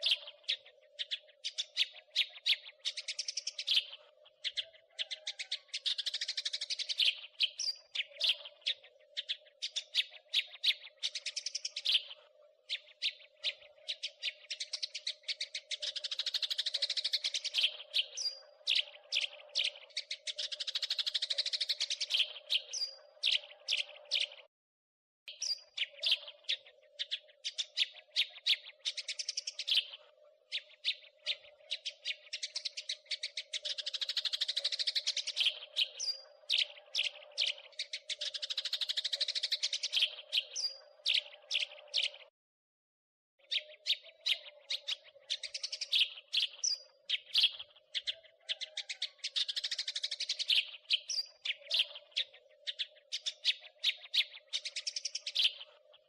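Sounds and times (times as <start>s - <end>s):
sparrow chirping: 0.0s - 24.5s, 25.3s - 42.3s, 43.4s - 56.0s.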